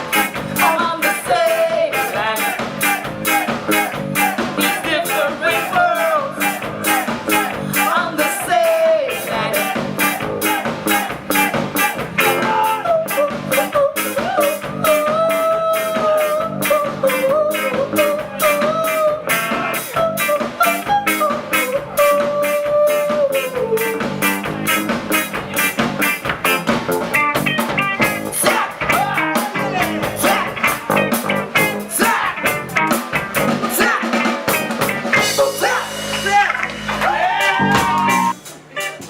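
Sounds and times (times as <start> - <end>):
drum kit beat: 0.0 - 39.0
guitar: 0.0 - 39.0.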